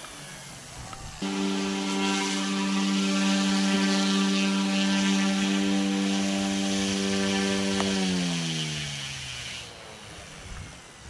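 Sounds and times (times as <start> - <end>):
rc helicopter rotor buzzing: 0.0 - 11.0.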